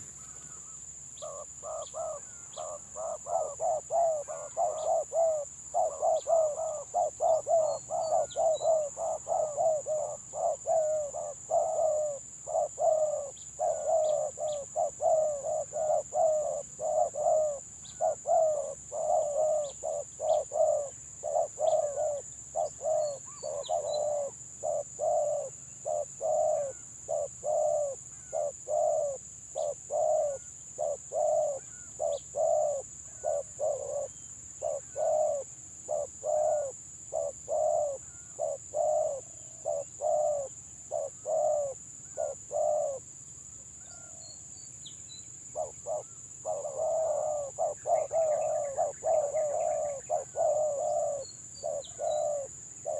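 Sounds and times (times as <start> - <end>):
doves cooing: 0.0 - 43.0, 45.6 - 52.9.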